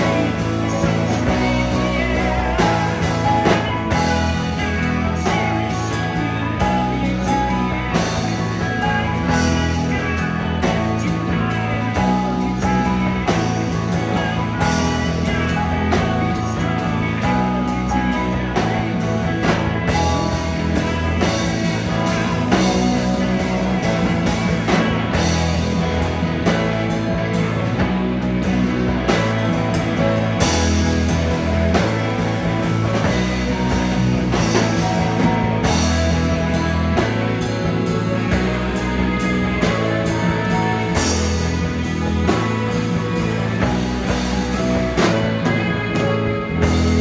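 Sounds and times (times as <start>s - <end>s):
drum kit: 0.0s - 47.0s
electric bass: 0.0s - 47.0s
electric guitars: 0.0s - 47.0s.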